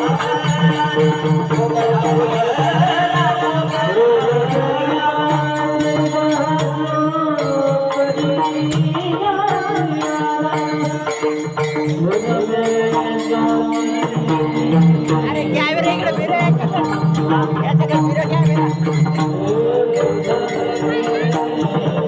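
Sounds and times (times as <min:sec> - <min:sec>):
drum beat: 0:00.0 - 0:22.0
held instrumental notes: 0:00.0 - 0:22.0
person singing: 0:00.0 - 0:22.0.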